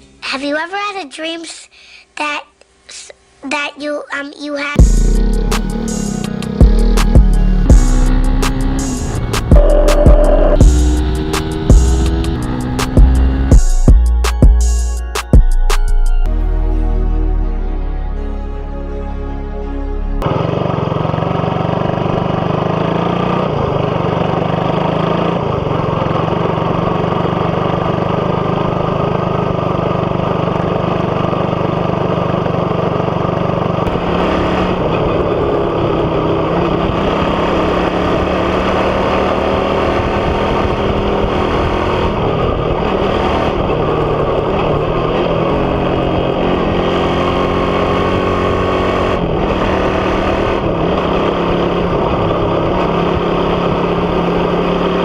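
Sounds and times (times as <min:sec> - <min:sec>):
motorcycle engine running: 0:04.8 - 0:14.8, 0:20.2 - 0:55.0.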